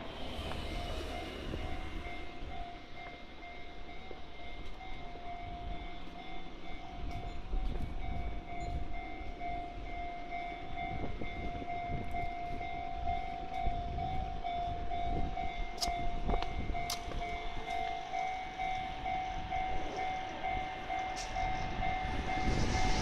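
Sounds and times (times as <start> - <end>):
electric train rumbling: 0.0 - 23.0
level crossing warning bell: 0.0 - 23.0.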